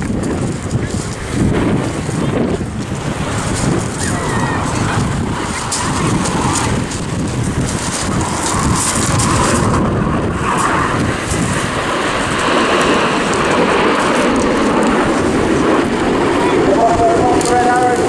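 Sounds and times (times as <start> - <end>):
jets rushing overhead: 0.2 - 18.0.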